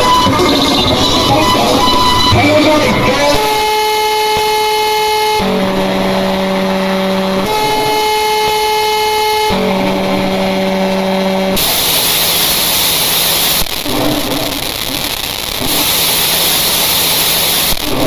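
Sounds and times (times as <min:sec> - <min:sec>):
alternating alarm tones: 0:00.0 - 0:18.0
loud static hiss: 0:00.0 - 0:18.0.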